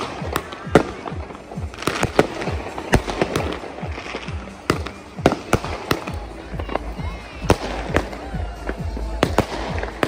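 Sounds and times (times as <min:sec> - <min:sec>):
firework bangs: 0:00.0 - 0:10.0
fireworks crackling: 0:00.0 - 0:10.0.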